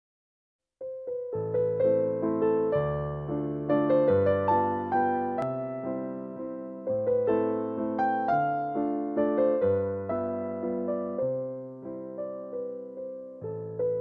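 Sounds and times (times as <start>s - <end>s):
keyboard notes and chords: 0.8s - 14.0s.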